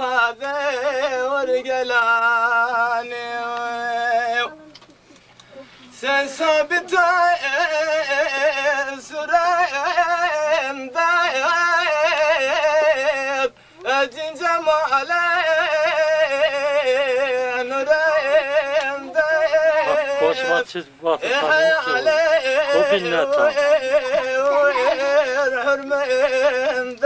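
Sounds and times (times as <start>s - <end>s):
man singing unaccompanied: 0.0s - 4.7s, 5.9s - 27.0s.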